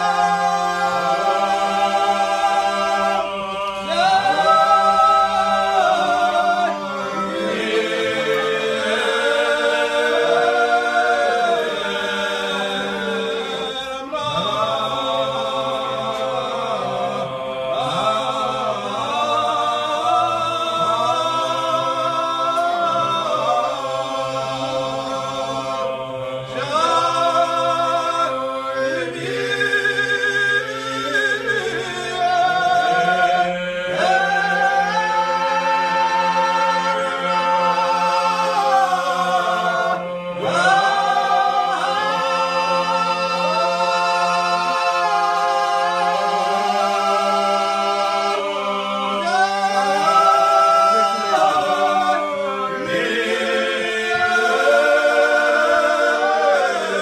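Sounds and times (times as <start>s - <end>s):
men singing a cappella: 0.0s - 57.0s.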